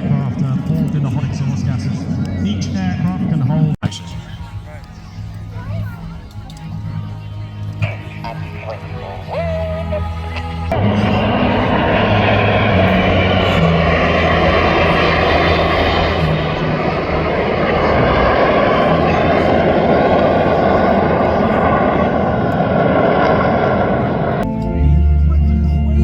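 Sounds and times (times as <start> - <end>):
jet engines passing over: 0.0 - 25.4.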